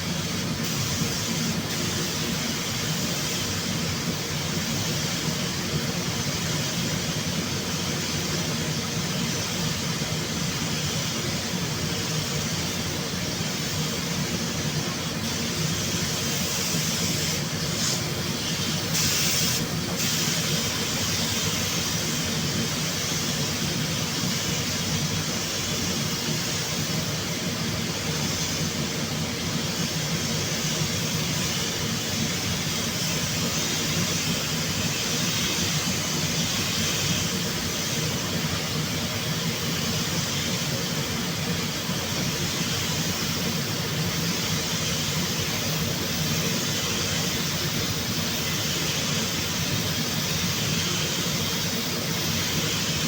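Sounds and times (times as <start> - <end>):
paint spray gun hissing: 0.0 - 53.0.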